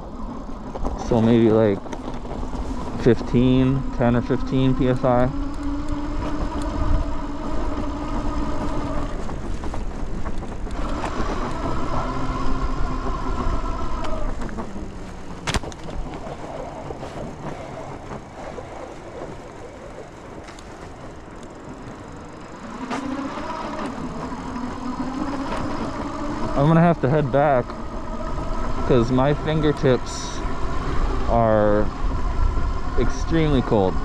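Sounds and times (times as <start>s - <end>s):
electric motor whining: 0.0s - 34.0s
riding noise rush: 0.0s - 34.0s.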